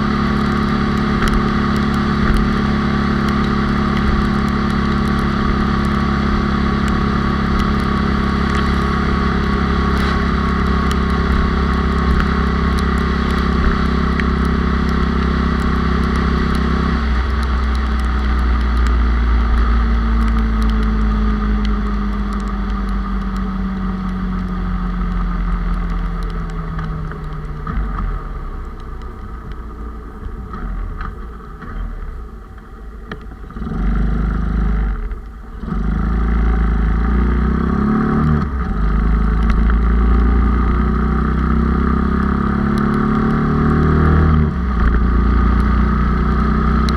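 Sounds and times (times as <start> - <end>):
motorcycle engine running: 0.0 - 46.9
wind and road rumble: 0.0 - 46.9.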